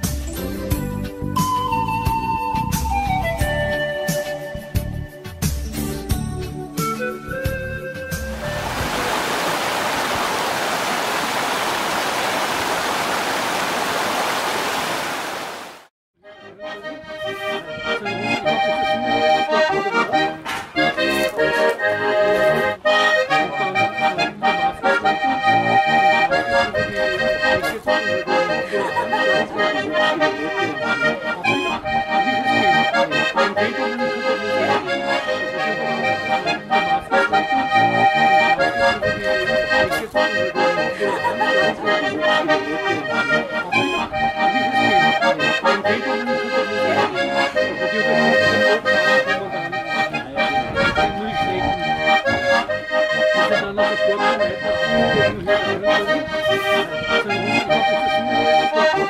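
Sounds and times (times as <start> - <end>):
accordion folk tune: 0.0 - 9.8, 16.2 - 59.0.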